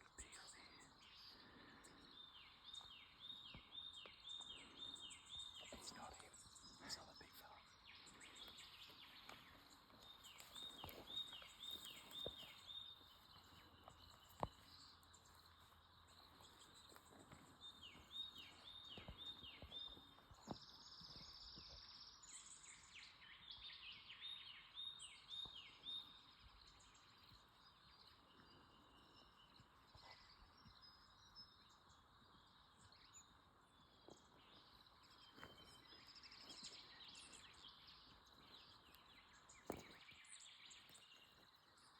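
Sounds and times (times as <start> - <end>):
bird song: 0.0 - 41.9.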